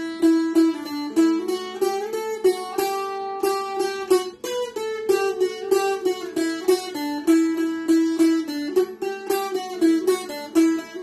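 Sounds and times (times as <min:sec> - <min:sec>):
plucked string instrument melody: 0:00.0 - 0:11.0.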